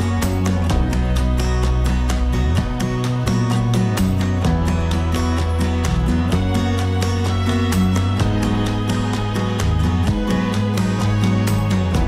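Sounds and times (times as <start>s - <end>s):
music with quick steady beat: 0.0s - 12.0s.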